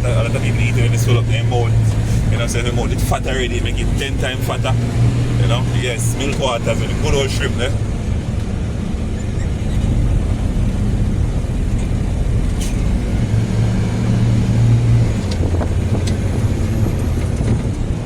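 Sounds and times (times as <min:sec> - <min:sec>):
car engine hum and tyre noise: 0:00.0 - 0:18.0.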